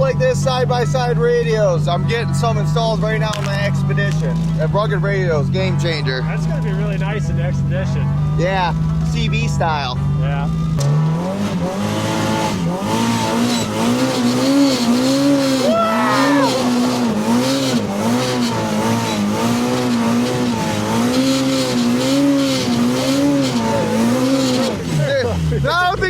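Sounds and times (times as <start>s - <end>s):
engine revving in snow: 0.0s - 26.0s.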